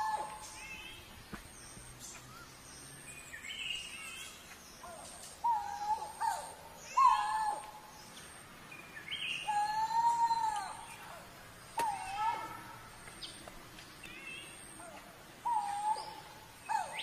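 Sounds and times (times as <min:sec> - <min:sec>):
higher chirping calls: 0:00.0 - 0:17.0.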